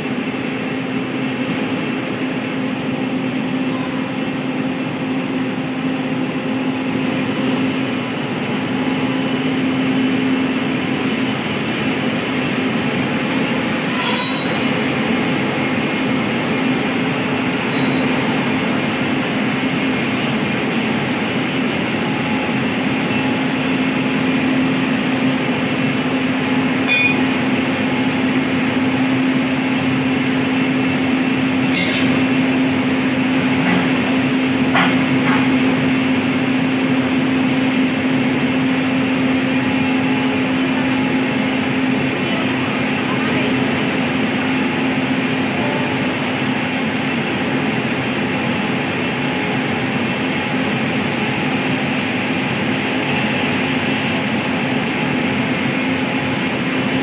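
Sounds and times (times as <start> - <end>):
electric locomotive humming: 0.0 - 57.0.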